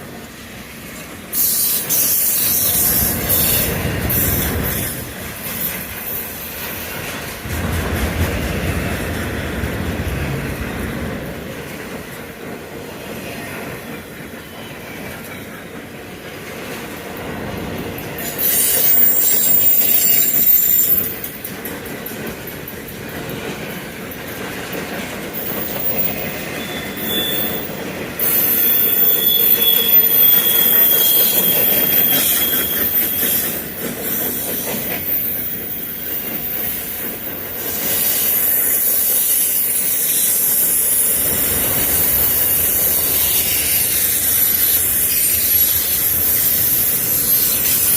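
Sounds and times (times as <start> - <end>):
freight train wheels on rails: 0.0 - 47.9
train wheels squealing: 0.9 - 7.4, 12.9 - 16.9, 18.0 - 21.8, 22.5 - 47.9.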